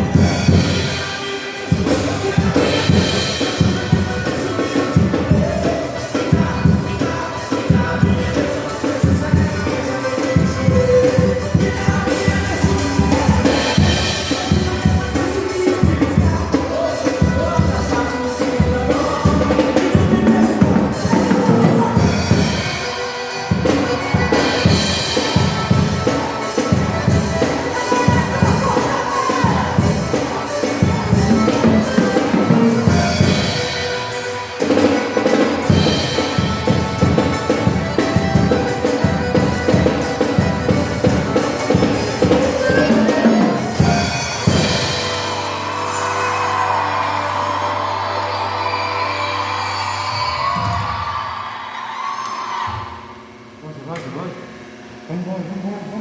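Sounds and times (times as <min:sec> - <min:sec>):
drum kit playing: 0:00.0 - 0:51.4
recorded worship song: 0:00.0 - 0:51.7.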